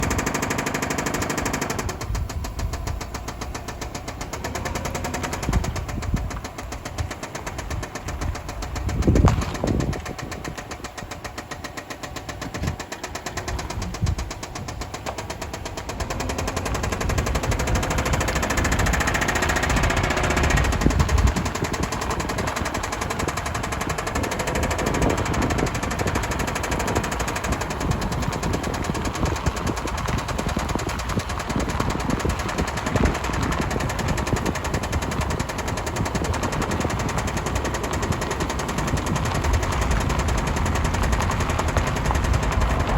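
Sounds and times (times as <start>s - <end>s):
car engine running: 0.0s - 42.9s
rapid engine knock: 0.0s - 42.9s.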